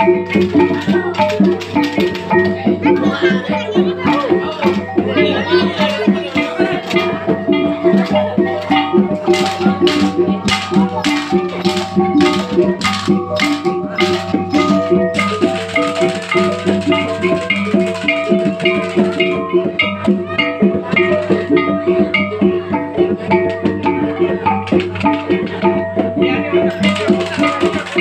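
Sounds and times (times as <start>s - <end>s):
rhythmic percussion music: 0.0s - 28.0s.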